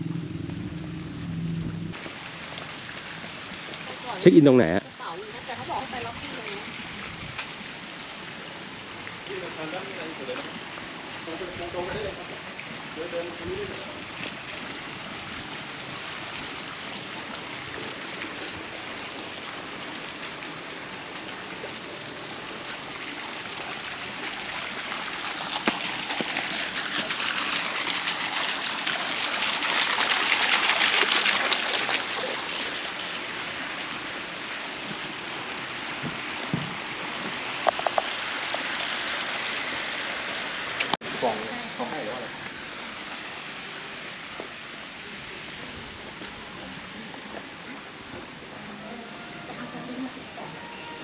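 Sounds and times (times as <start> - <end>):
running water splashing: 1.9 - 51.0.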